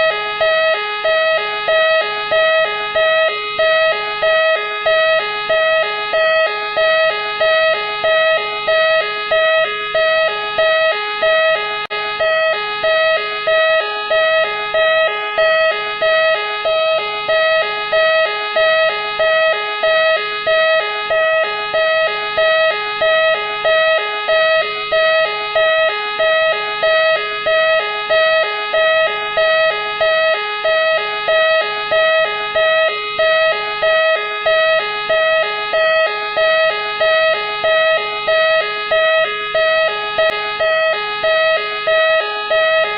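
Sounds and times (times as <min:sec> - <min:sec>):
two-tone police siren: 0:00.0 - 0:42.9.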